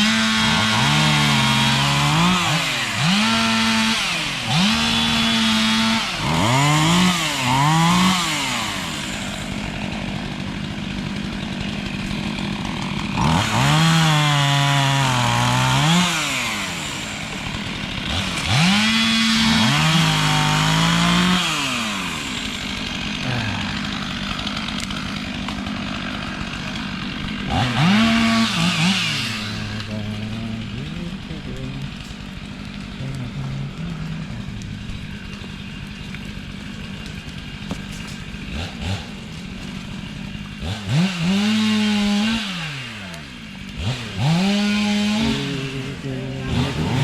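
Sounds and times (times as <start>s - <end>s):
chainsaw revving and cutting: 0.0s - 47.0s.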